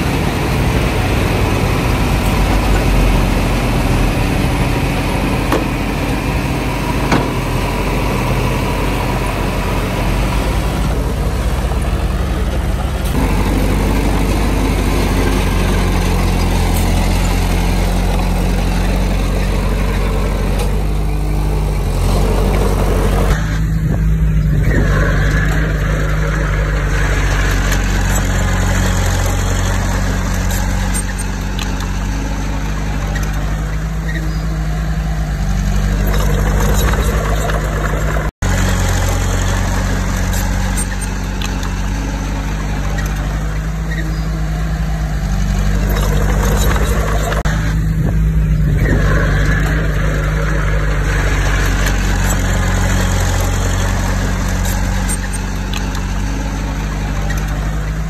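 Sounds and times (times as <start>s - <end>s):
heavy diesel machinery droning: 0.0s - 58.0s.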